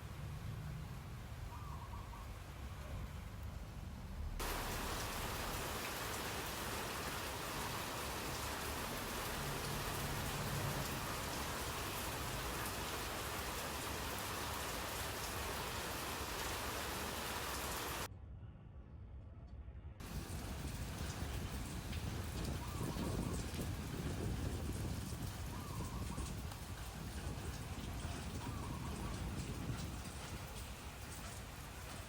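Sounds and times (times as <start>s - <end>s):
steady rain falling: 0.0s - 1.5s, 2.2s - 18.1s, 20.0s - 32.0s.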